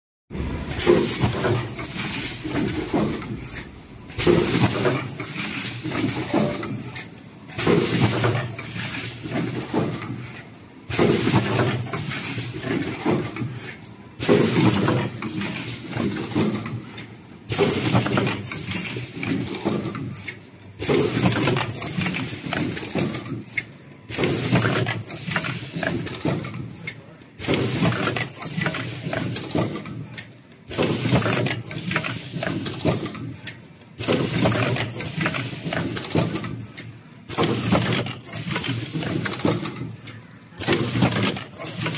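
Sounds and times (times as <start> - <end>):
welding machine noise with high hiss: 0.4 - 33.3, 33.9 - 41.9.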